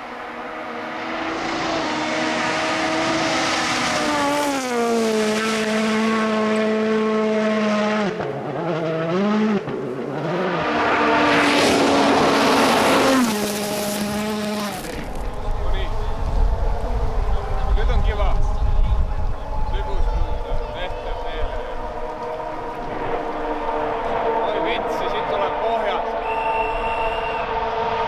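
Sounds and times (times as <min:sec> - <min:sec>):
rally car engine running hard: 0:00.0 - 0:26.2.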